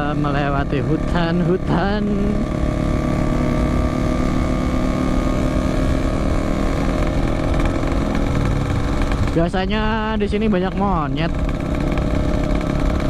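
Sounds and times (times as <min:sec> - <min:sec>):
two-stroke motorcycle engine cruising: 0:00.0 - 0:13.0.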